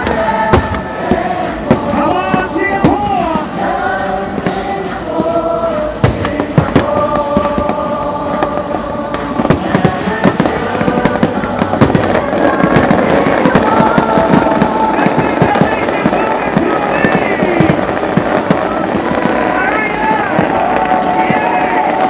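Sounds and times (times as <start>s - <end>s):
fireworks bangs and crackles: 0.0s - 22.0s
music with long held notes: 0.0s - 22.0s.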